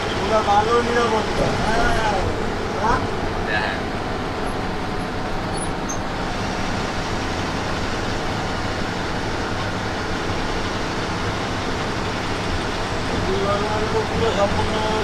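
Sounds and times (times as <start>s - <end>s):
bus engine hum: 0.0s - 15.0s.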